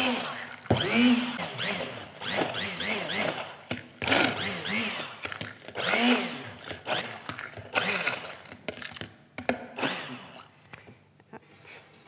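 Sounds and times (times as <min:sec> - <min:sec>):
immersion blender whirring: 0:00.0 - 0:09.0, 0:09.6 - 0:10.5.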